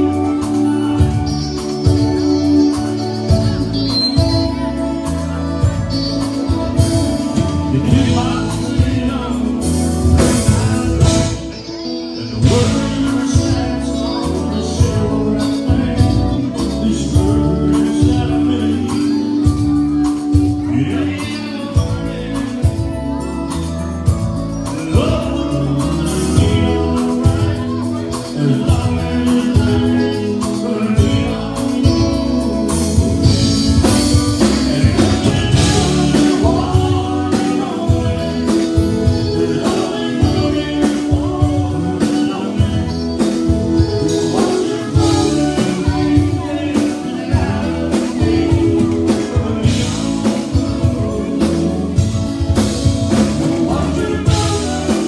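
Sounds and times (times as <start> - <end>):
band playing through loudspeakers: 0.0 - 55.0
man singing into a microphone: 0.0 - 55.0.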